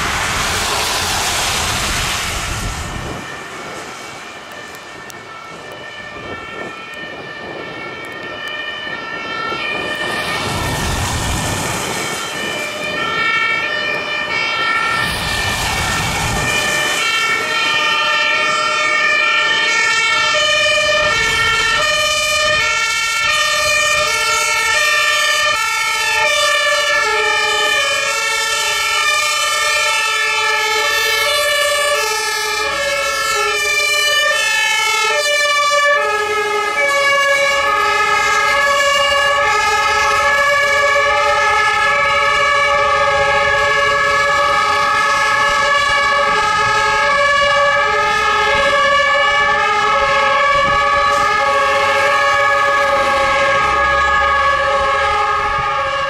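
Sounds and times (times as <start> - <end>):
fire engine two-tone sirens: 0.0 - 56.0
tyres rushing on wet road: 0.0 - 56.0.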